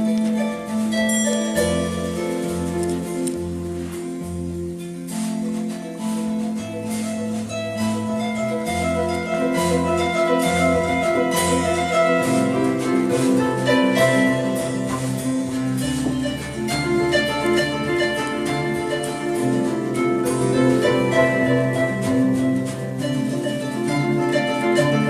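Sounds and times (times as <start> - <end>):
plucked harp notes: 0.0 - 25.0.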